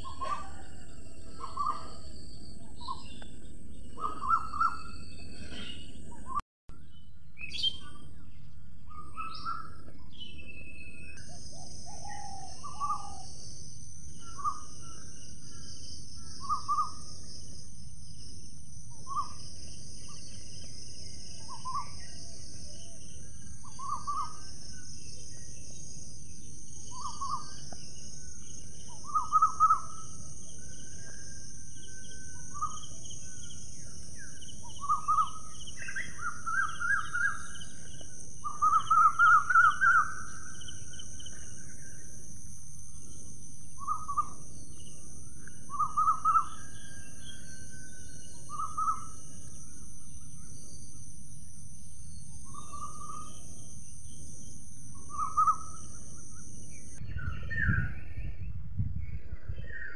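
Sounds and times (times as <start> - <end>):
bird calling: 0.0 - 6.4, 7.4 - 17.6, 18.9 - 42.2, 43.0 - 51.0, 52.2 - 57.9.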